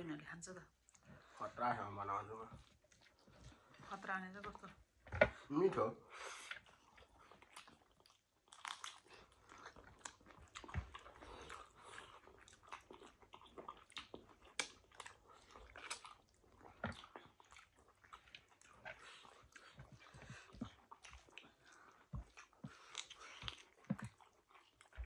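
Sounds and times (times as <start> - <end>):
people chewing food: 0.0 - 25.0.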